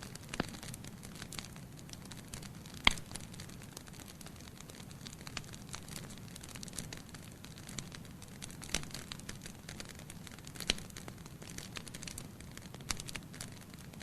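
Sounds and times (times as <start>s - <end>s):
fire crackling: 0.0s - 14.0s
loud fire pops: 0.0s - 14.0s.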